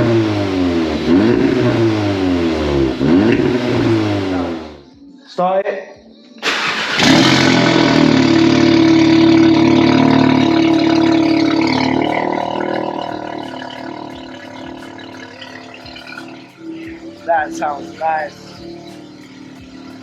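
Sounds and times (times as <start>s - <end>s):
car engine idling: 0.0s - 4.9s, 6.4s - 20.0s.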